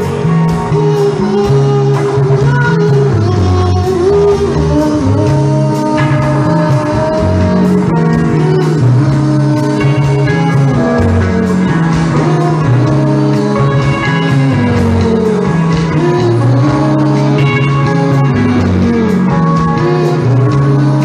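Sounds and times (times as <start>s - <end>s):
electric guitars: 0.0s - 21.0s
live rock band playing: 0.0s - 21.0s.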